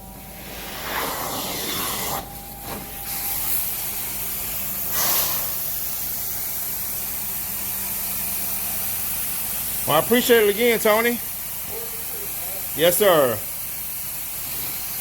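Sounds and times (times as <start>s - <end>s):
carpet cleaning machine hissing: 0.0s - 15.0s.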